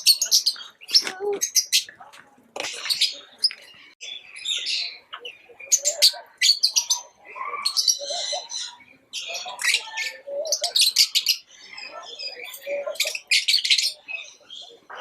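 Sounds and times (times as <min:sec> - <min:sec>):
lovebirds chirping and chattering: 0:00.0 - 0:15.0.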